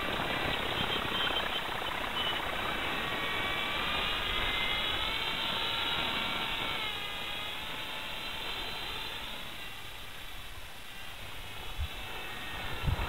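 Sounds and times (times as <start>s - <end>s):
model aircraft motor whining: 0.0s - 13.0s
steady rushing noise: 0.0s - 13.0s.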